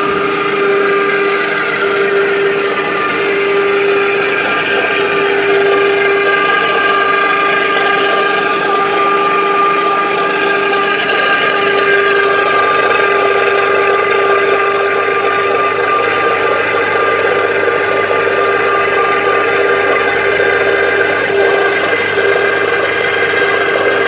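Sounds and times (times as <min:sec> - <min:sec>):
machinery whining: 0:00.0 - 0:24.0.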